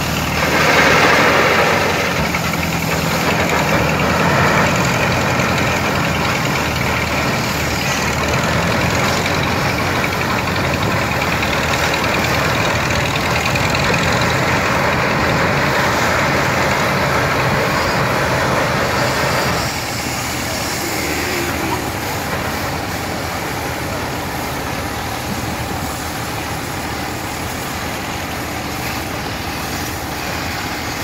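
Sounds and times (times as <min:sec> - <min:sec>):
steam machinery rushing: 0:00.0 - 0:31.0.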